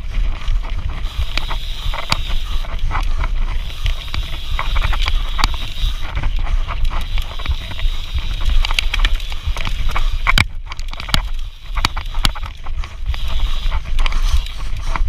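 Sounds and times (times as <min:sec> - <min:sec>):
bike rattling over bumps: 0:00.0 - 0:15.0
wind buffeting microphone: 0:00.0 - 0:15.0.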